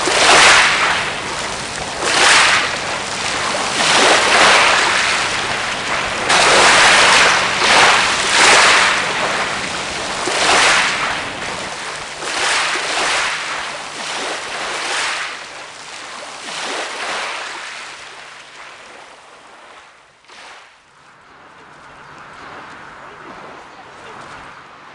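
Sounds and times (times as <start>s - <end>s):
waves washing onto shingle: 0.0s - 24.9s.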